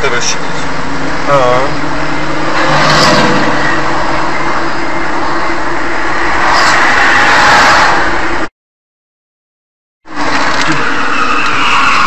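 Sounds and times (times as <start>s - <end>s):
car engine: 0.0s - 8.5s, 10.0s - 12.0s.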